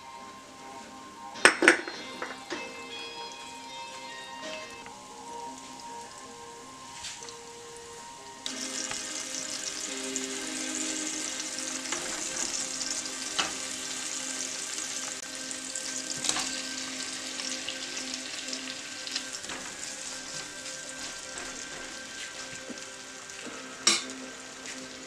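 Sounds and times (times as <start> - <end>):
food sizzling in hot oil: 2.8 - 25.0.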